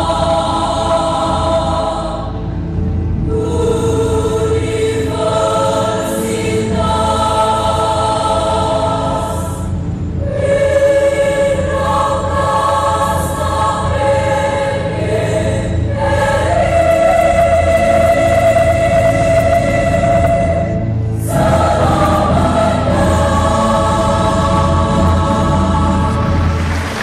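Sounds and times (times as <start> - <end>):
women's choir singing: 0.0 - 2.5, 3.2 - 27.0.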